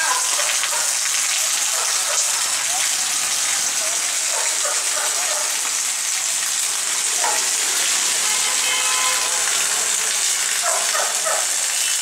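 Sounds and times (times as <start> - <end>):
rain on wet pavement: 0.0 - 12.0.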